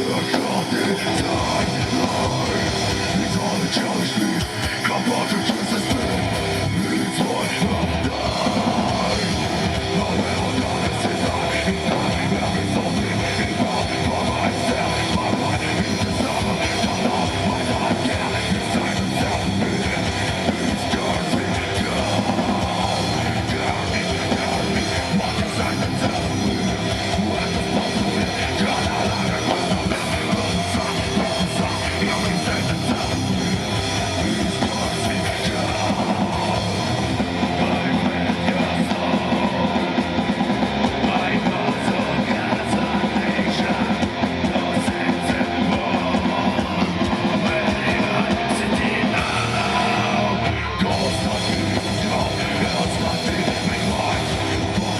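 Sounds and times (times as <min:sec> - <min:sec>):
instrumental rock band playing: 0:00.0 - 0:54.9.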